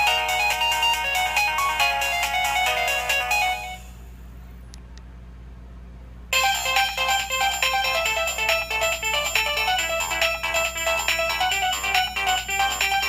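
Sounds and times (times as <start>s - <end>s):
mobile phone ringtone melody: 0.0s - 4.0s, 6.4s - 13.0s.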